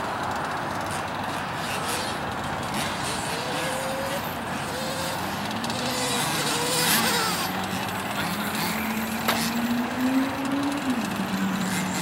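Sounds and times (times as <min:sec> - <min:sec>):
small two-stroke engine running: 0:00.0 - 0:12.0.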